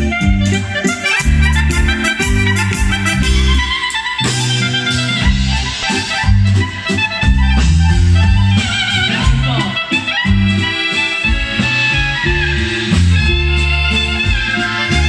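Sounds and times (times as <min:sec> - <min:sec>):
accordion: 0:00.0 - 0:15.0
clarinet: 0:00.0 - 0:15.0
live band music: 0:00.0 - 0:15.0.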